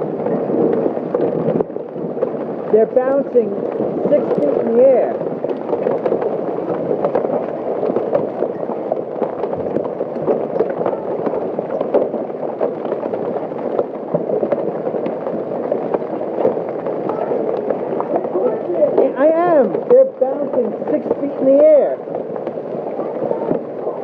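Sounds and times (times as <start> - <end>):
hailstones pounding down: 0.0 - 24.0.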